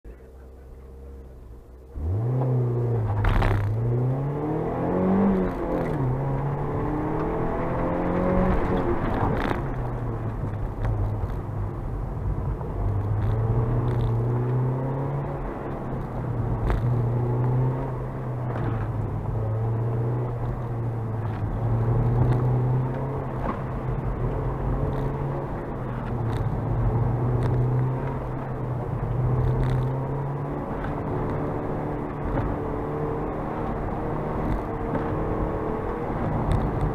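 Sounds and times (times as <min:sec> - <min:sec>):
car engine accelerating hard: 0:00.1 - 0:36.9.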